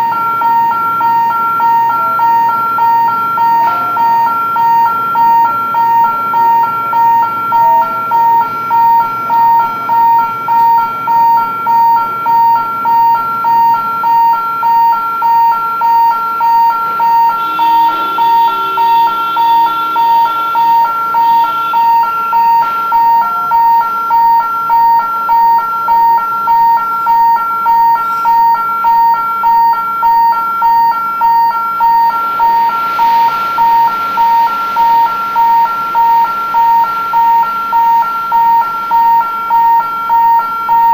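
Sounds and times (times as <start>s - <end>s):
warning beeper short beeps: 0.0s - 40.9s.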